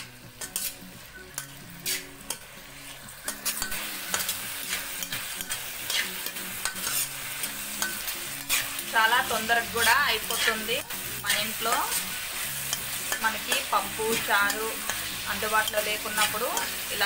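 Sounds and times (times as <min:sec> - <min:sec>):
frying sizzle: 0:00.0 - 0:17.0
metal spatula scraping pan: 0:00.0 - 0:17.0.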